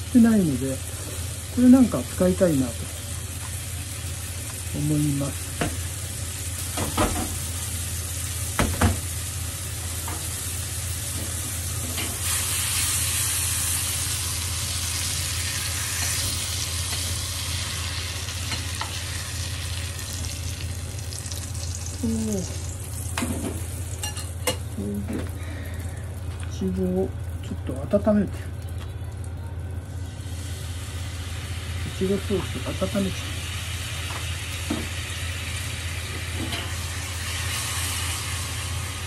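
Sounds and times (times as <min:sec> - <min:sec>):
fruit sizzling in oil: 0:00.0 - 0:28.6, 0:29.8 - 0:39.0.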